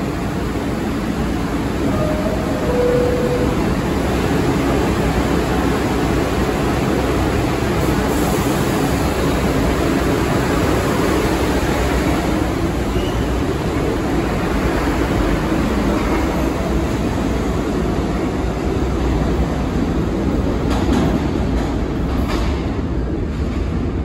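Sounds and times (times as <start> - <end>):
subway train arriving: 0.0 - 24.0
subway train rumbling on rails: 0.0 - 24.0.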